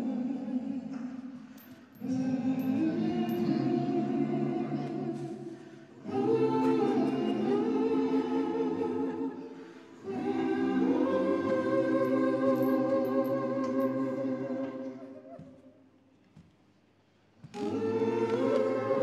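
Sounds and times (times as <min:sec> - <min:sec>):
choir singing sustained chords: 0:00.0 - 0:15.4, 0:17.6 - 0:19.0.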